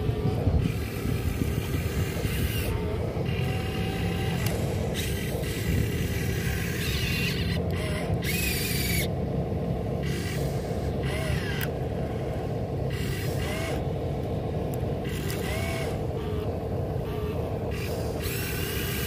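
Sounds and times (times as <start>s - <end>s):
electric motors whirring: 0.0s - 19.0s
steady low hum: 0.0s - 19.0s.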